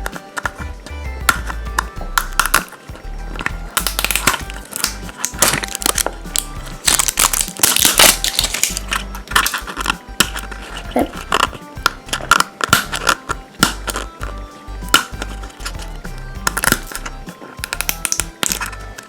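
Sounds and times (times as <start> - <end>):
background music with bass line: 0.0 - 19.0
plastic wrapper crinkling and tearing: 3.4 - 19.0.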